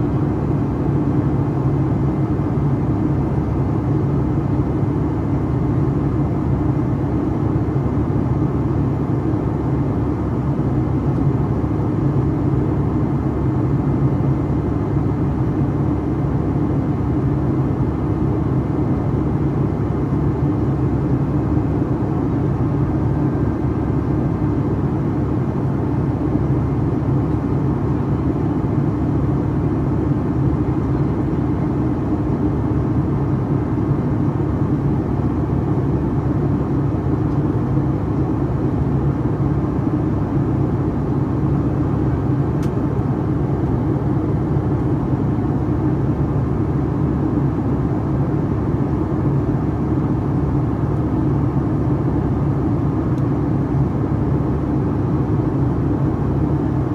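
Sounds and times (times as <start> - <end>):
jet engine cabin drone: 0.0 - 56.9.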